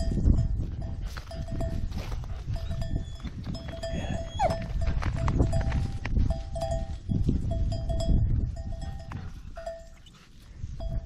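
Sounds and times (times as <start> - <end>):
sheep bells clinking: 0.0 - 11.0
wind rumble on microphone: 0.0 - 11.0.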